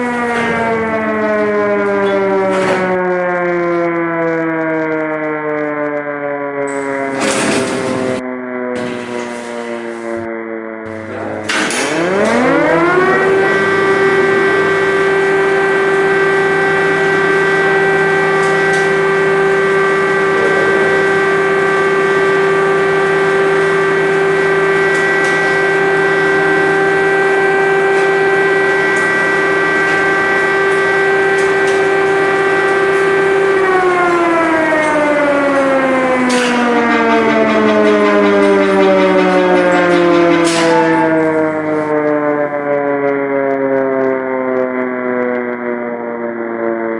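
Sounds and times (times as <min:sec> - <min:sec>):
air-raid siren: 0:00.0 - 0:46.9.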